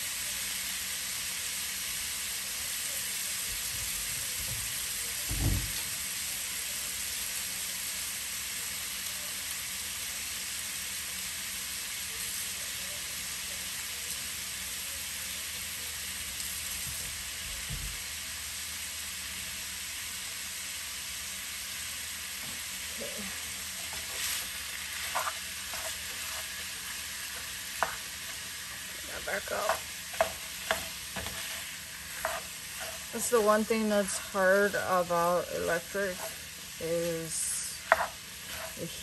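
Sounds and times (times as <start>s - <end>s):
meat sizzling in a pan: 0.0s - 39.0s.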